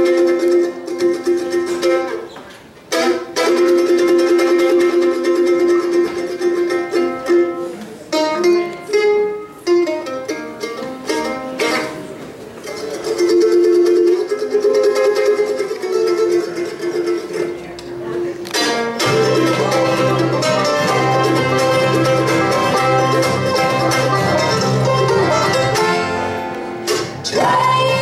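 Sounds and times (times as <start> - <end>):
mandolin tremolo picking: 0.0 - 28.0.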